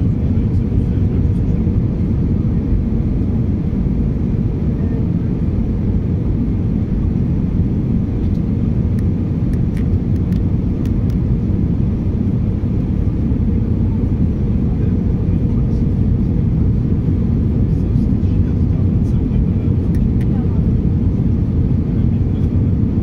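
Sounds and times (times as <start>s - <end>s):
airplane cabin engine and airflow rumble: 0.0s - 23.0s.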